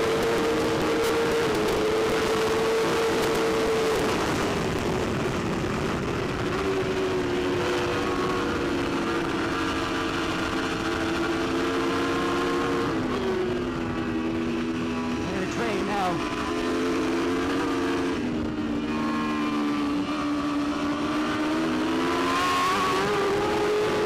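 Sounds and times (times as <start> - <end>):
motorcycle engine at high revs: 0.0 - 24.0
wind rush: 0.0 - 24.0.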